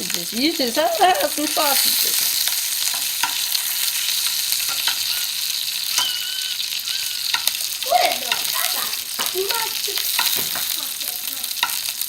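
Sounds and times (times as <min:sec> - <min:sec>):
grease popping: 0:00.0 - 0:12.0
sausages sizzling in a skillet: 0:00.0 - 0:12.0.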